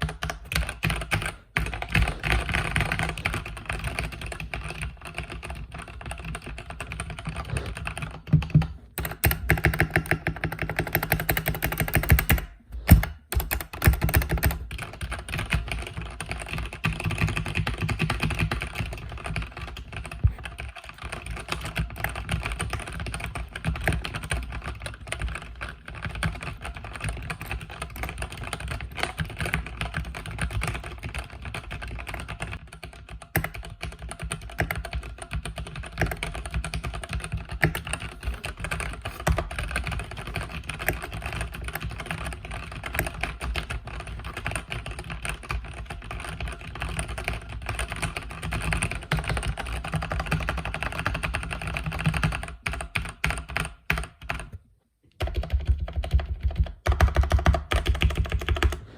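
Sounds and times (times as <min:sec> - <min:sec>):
fast typing on mechanical keyboard: 0:00.0 - 0:54.6, 0:55.2 - 0:58.9.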